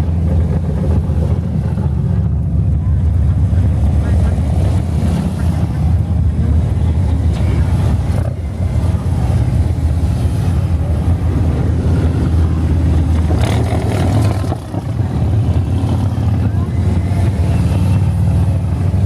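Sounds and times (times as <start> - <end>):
motorcycles riding past: 2.9 - 19.0.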